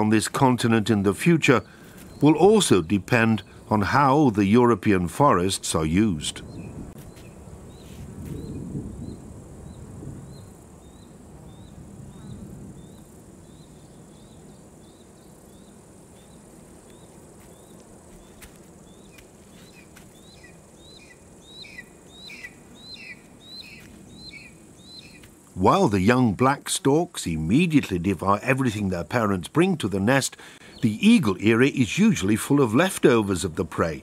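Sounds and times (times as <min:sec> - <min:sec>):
bird chirping: 0:00.0 - 0:04.0, 0:06.3 - 0:25.4, 0:28.7 - 0:34.0
faint outdoor hiss: 0:00.0 - 0:34.0.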